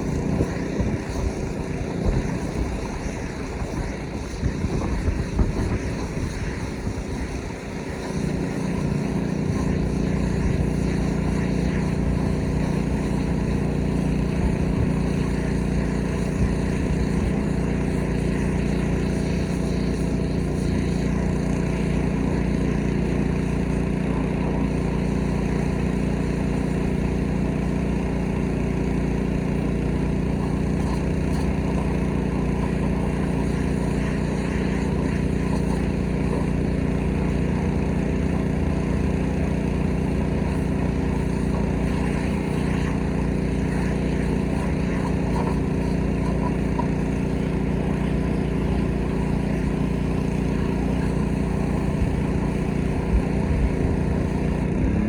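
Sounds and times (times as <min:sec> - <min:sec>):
irregular rushing noise: 0:00.0 - 0:55.0
pressure washer engine running: 0:00.0 - 0:55.0.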